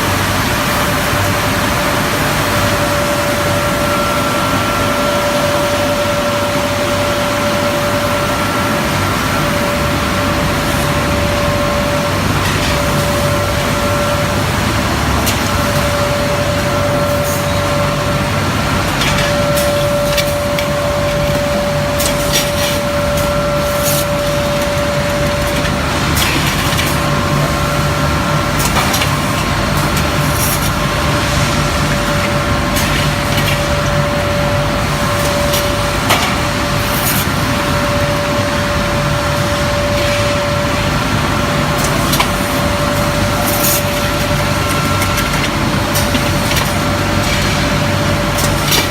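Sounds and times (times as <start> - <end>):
low machine hum: 0.0 - 48.9
machine whine: 0.0 - 48.9.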